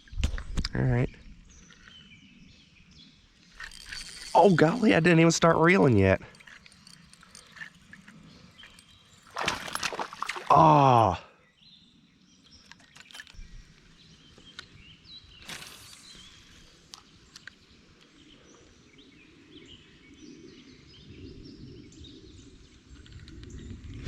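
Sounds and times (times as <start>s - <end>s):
birds chirping: 0.0s - 23.9s
outdoor ambience: 0.0s - 24.0s.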